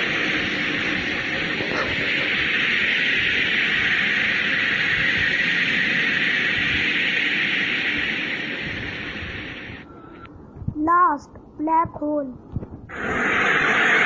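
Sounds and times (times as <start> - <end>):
steady rushing hiss: 0.0 - 12.2, 12.8 - 14.0.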